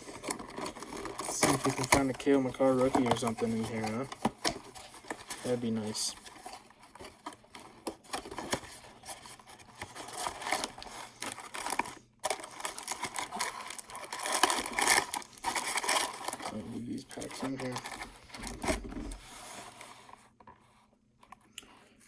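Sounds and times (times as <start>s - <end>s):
card packs rustling and crinkling: 0.0s - 22.0s.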